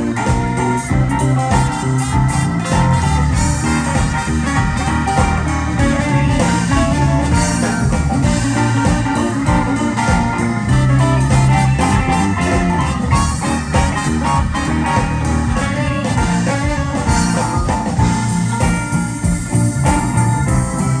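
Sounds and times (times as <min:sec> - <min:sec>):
blues rock band playing: 0:00.0 - 0:21.0.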